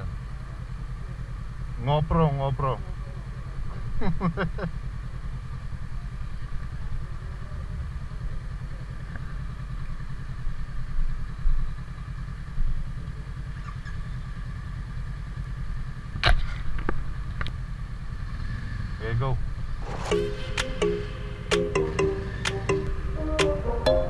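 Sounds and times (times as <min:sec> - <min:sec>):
motorcycle engine idling: 0:00.0 - 0:19.8.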